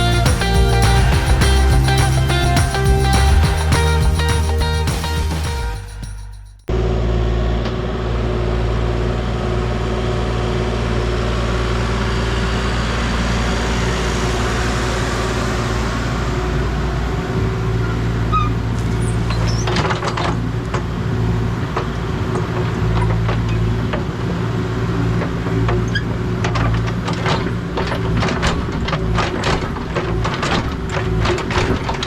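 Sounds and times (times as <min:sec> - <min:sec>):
engine running: 0:00.0 - 0:06.1, 0:06.7 - 0:32.0.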